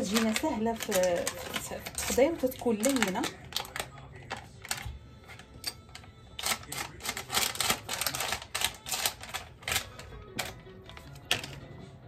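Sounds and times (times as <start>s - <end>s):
butter wrapper crinkling: 0.0s - 11.7s.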